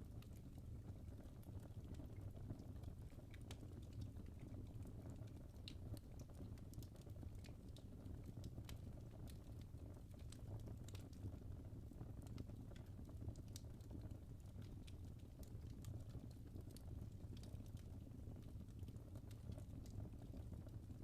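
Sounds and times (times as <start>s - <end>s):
log fire crackling: 0.0s - 21.0s.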